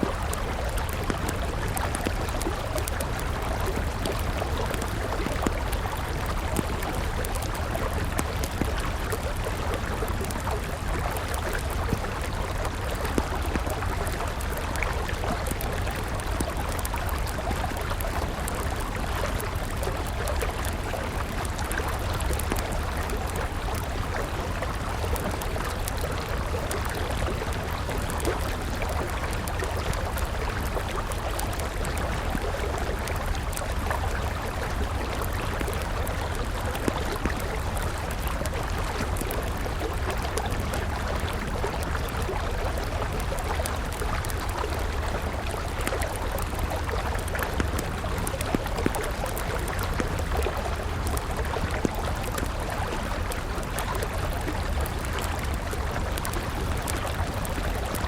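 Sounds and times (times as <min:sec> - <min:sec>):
river flowing: 0:00.0 - 0:58.0
wood fire crackling: 0:00.0 - 0:58.0.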